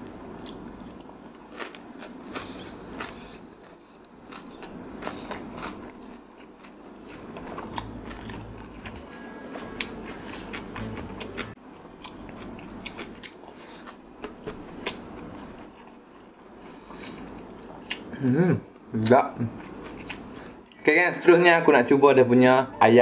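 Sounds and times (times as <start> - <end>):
person chewing food: 0.4 - 18.1, 19.6 - 20.7.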